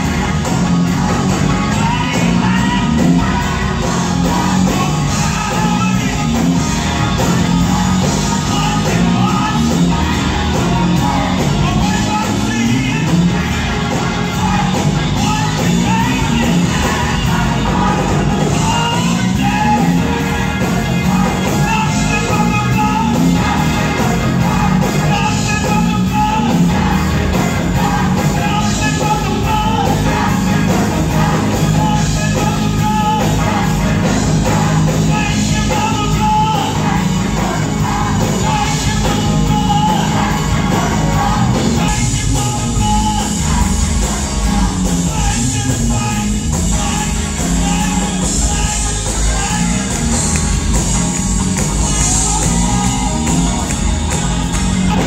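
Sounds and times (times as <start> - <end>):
gospel choir singing: 0.0 - 55.0
live band playing: 0.0 - 55.0.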